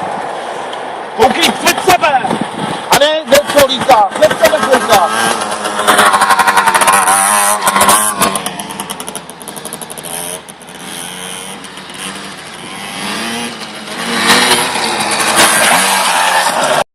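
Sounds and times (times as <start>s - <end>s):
motocross bike engine revving: 3.2s - 16.9s.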